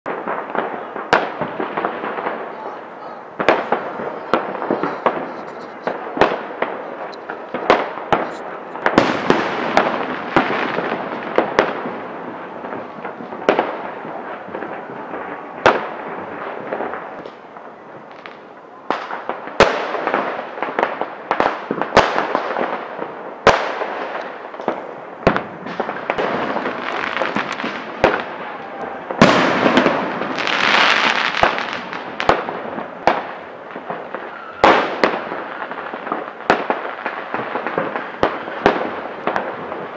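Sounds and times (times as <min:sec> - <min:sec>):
firecrackers crackling: 0:00.1 - 0:39.9
fireworks banging: 0:00.1 - 0:39.9.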